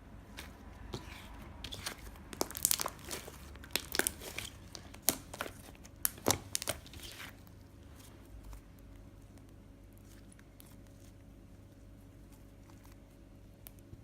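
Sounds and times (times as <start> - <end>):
crinkling and crackling: 0.2 - 14.0.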